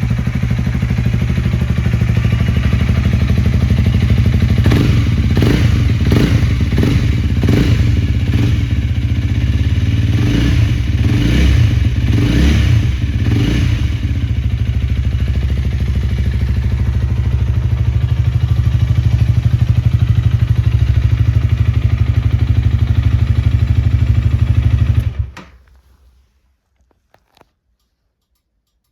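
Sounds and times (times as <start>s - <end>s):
motorcycle engine revving and idling: 0.0s - 25.4s.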